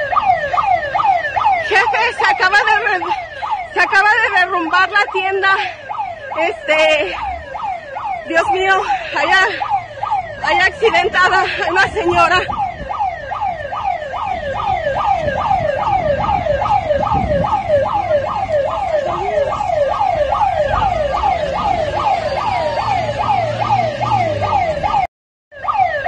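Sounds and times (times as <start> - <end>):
electronic siren yelping: 0.0 - 26.0
street noise: 0.0 - 26.0.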